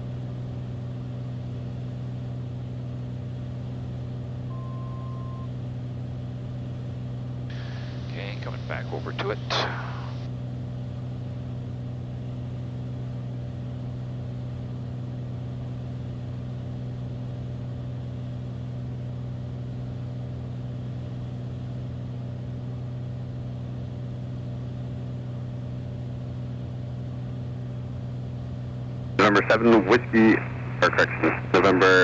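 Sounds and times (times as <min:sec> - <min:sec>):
propeller plane engine droning: 0:00.0 - 0:32.0.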